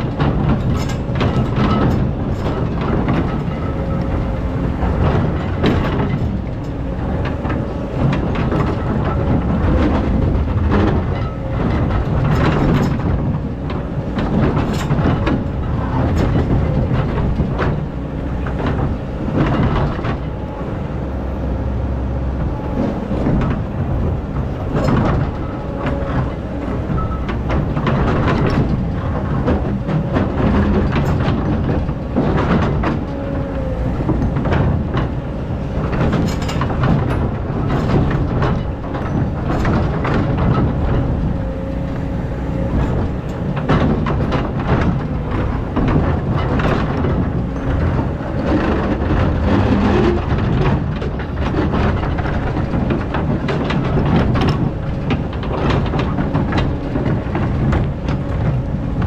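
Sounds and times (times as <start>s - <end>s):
bucket and tracks clattering: 0.0s - 21.4s, 22.4s - 59.0s
excavator engine rumble: 0.0s - 59.0s.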